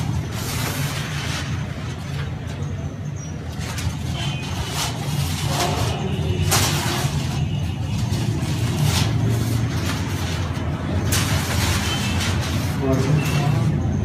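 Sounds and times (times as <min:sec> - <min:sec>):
paper kites rustling: 0:00.0 - 0:14.0.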